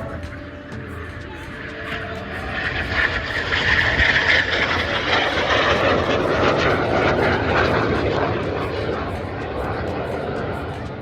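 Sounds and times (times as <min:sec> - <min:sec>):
jets flying past roaring: 0:00.0 - 0:11.0.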